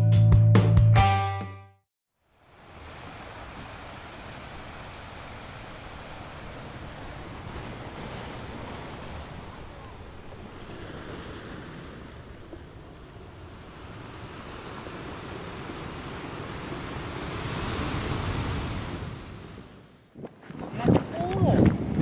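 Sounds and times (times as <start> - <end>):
sea rushing: 2.3 - 22.0
wind buffeting microphone: 3.4 - 22.0.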